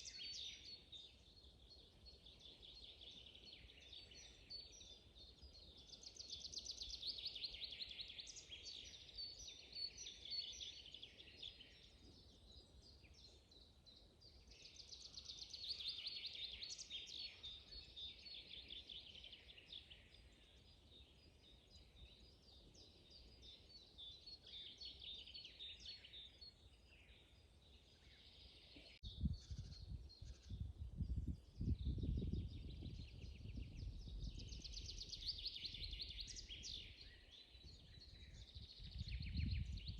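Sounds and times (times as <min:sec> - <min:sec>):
faint background birdsong: 0:00.0 - 0:39.9.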